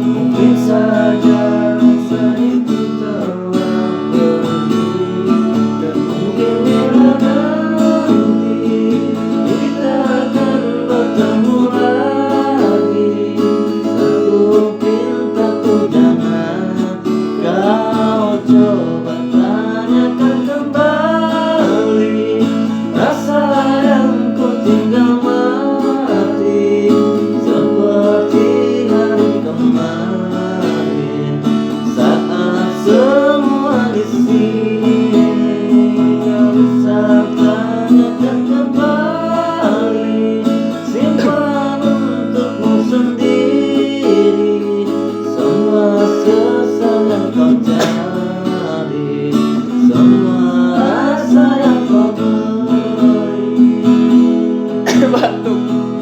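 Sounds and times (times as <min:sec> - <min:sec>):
acoustic guitar strummed: 0:00.0 - 0:56.0
person singing: 0:00.0 - 0:56.0.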